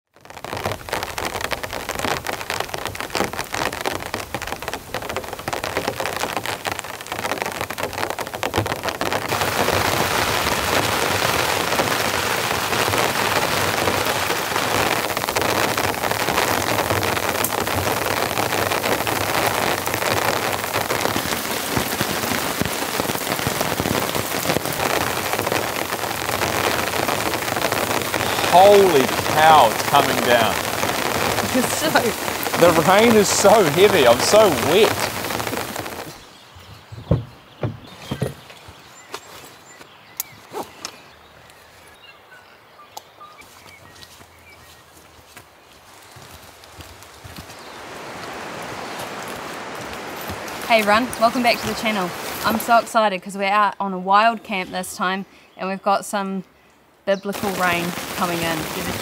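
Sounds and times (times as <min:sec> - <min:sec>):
heavy rain on tarp: 0:00.0 - 0:42.7, 0:43.4 - 0:53.7, 0:57.3 - 0:59.0.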